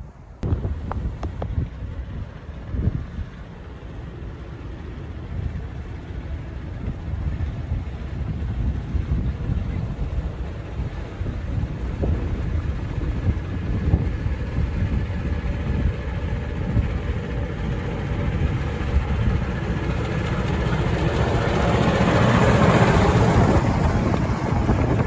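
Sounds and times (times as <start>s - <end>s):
miniature train passing: 0.0s - 25.0s.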